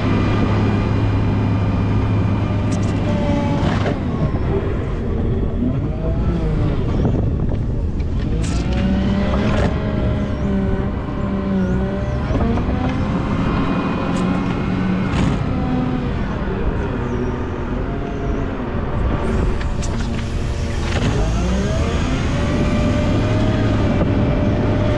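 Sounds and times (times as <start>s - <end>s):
diesel engine running under load: 0.0s - 24.9s.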